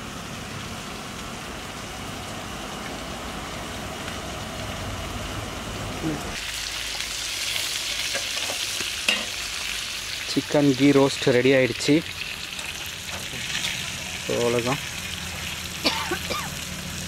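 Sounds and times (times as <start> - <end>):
chicken sizzling in oil: 0.0 - 17.0
gas burner rumble: 0.0 - 17.0.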